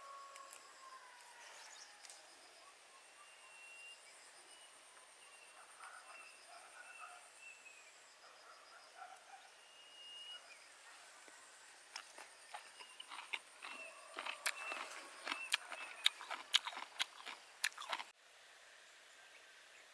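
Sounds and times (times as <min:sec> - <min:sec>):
bird calls and chirps: 0:00.0 - 0:16.5
insects trilling: 0:00.0 - 0:18.1.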